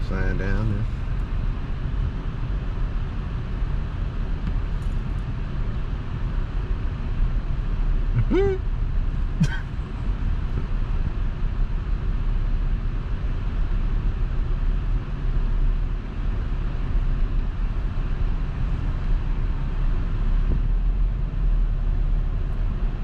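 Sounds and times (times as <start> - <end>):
car interior road rumble: 0.0 - 23.0.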